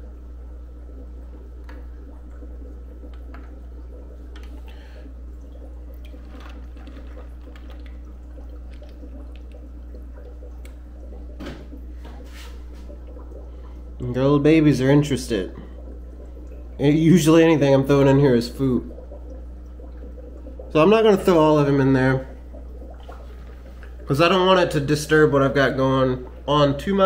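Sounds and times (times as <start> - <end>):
soft plops and ticks: 0.0 - 27.0
steady low hum: 0.0 - 27.0
water dripping and splashing: 0.0 - 27.0.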